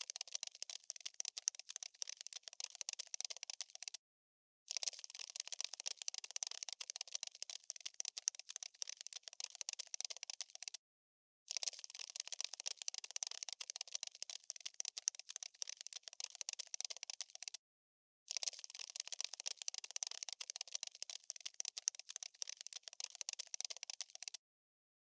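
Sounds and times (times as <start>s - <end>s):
dry clicking and scratching: 0.0s - 4.0s, 4.7s - 10.8s, 11.5s - 17.6s, 18.3s - 24.4s.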